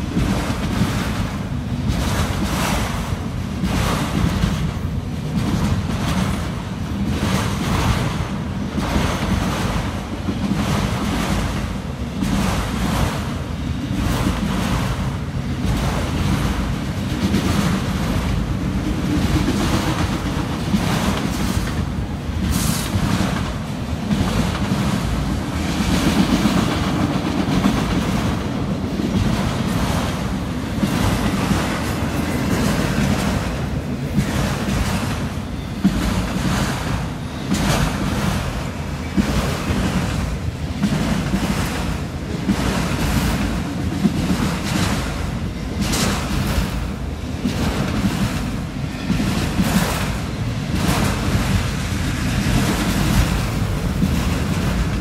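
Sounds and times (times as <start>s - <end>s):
freight train rumbling past: 0.0s - 55.0s
train wheels clattering: 0.0s - 55.0s.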